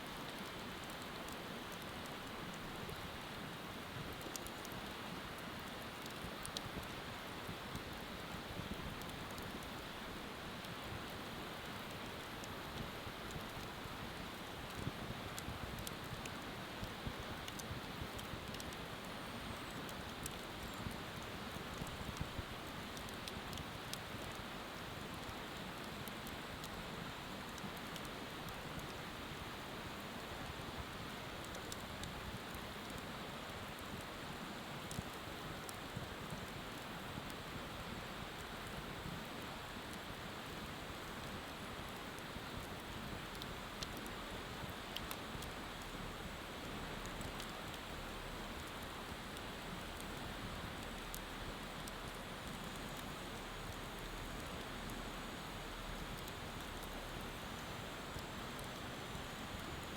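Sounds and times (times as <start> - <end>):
bonfire crackling and popping: 0.1 - 59.9.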